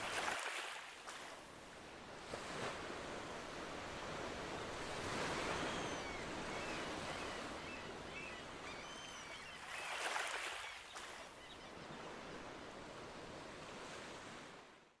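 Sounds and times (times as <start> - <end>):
ocean waves washing onto shore: 0.0 - 8.7, 9.6 - 14.8.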